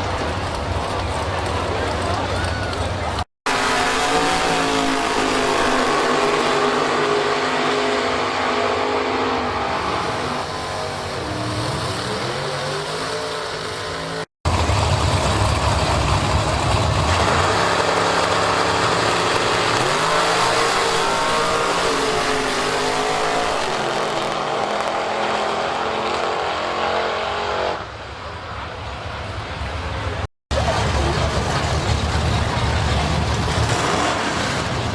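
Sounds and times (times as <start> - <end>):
drag racing car engines revving: 0.0 - 34.9.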